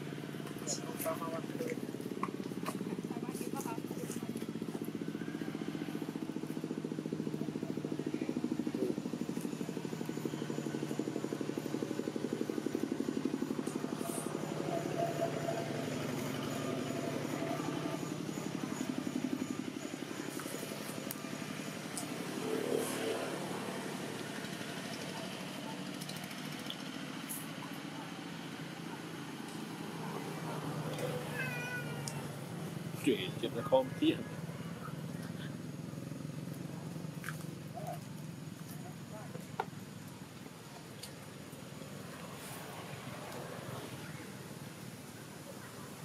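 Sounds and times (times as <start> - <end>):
small engine idling: 0.0 - 46.0.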